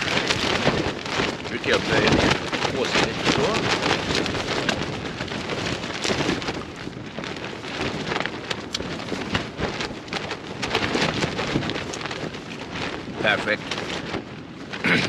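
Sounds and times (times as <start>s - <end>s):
plastic bag crackling: 0.0s - 15.0s
wind buffeting tent fabric: 0.0s - 15.0s.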